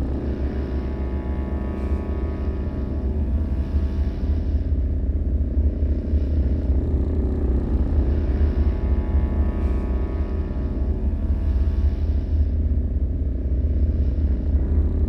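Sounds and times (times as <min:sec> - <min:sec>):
dark horror ambience drone: 0:00.0 - 0:15.0.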